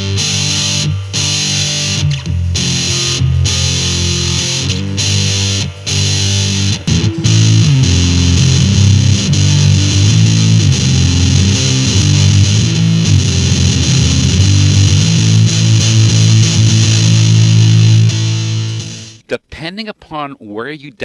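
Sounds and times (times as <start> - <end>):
distorted electric guitar chords: 0.0 - 19.2.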